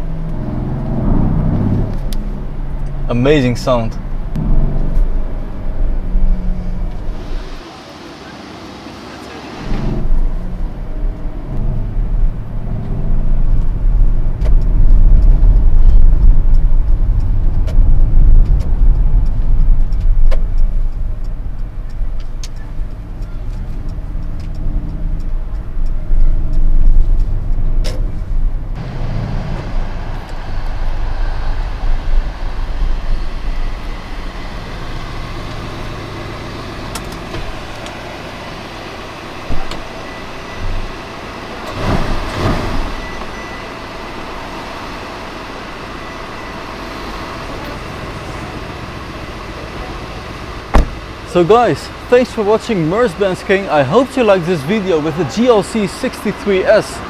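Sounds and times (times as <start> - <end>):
car engine and exhaust roar: 0.0 - 57.0.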